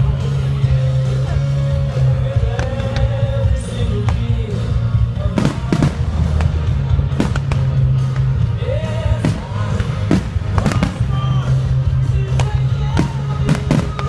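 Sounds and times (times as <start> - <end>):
music with heavy bass line: 0.0 - 14.0
fireworks bangs: 2.4 - 14.0.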